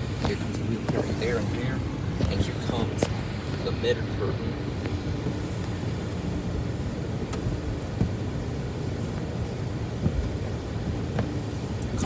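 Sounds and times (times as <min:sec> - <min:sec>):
car wash rumble and hiss: 0:00.0 - 0:12.0.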